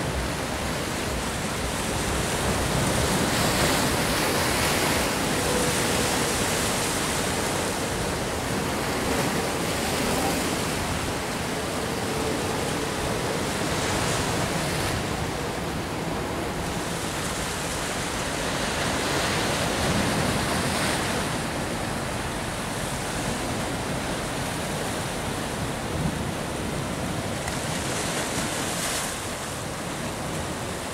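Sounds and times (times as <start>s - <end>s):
waves breaking on rocky shore: 0.0s - 30.9s.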